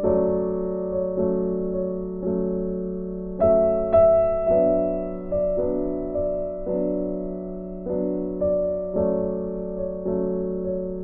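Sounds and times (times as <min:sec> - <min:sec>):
gentle piano tune: 0:00.0 - 0:11.0.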